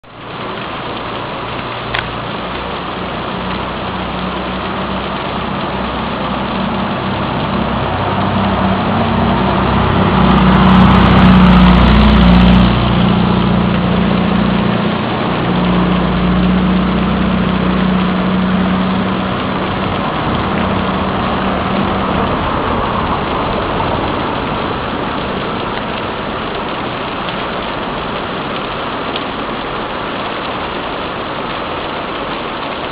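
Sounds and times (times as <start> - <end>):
steady rain: 0.0 - 32.9
vehicle engine hum: 0.1 - 32.9.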